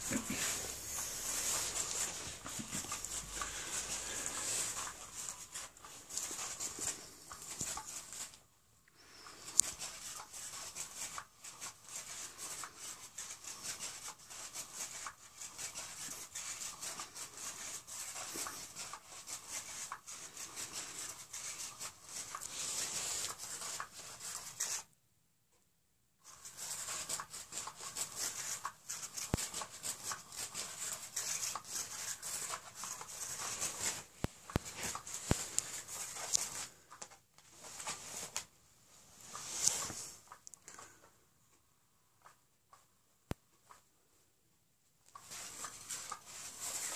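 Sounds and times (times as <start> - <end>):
cat scratching fabric and carpet: 0.0 - 25.0, 26.2 - 41.0, 45.0 - 46.9.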